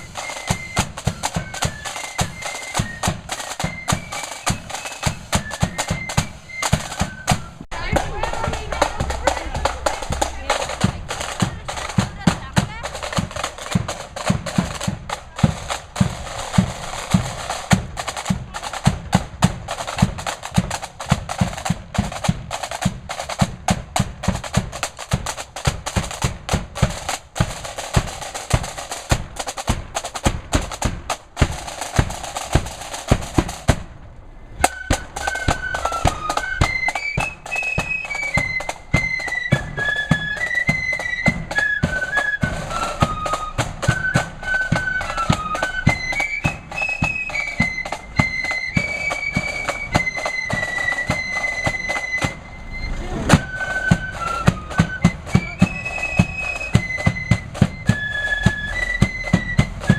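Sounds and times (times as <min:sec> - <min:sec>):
flutes playing a tune: 0:00.0 - 0:33.4, 0:34.5 - 0:59.9
snare and bass drums: 0:00.0 - 0:59.9.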